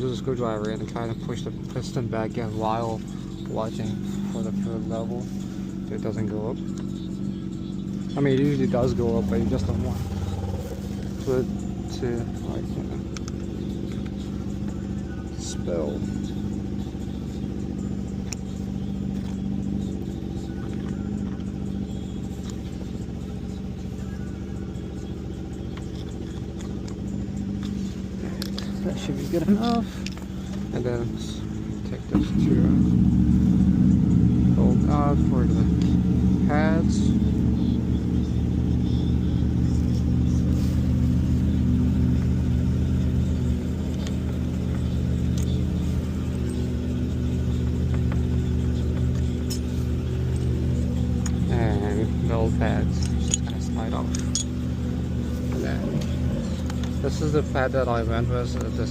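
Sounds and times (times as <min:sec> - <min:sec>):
mechanical drone: 0:00.0 - 0:58.9.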